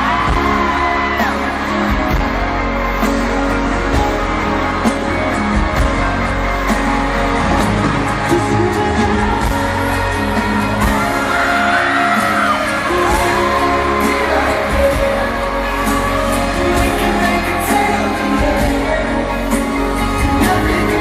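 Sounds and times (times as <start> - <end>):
live pop ballad over loudspeakers: 0.0 - 21.0.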